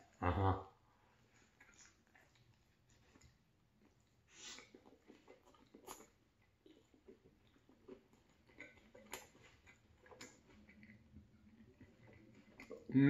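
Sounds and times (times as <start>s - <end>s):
person chewing: 1.3s - 13.0s.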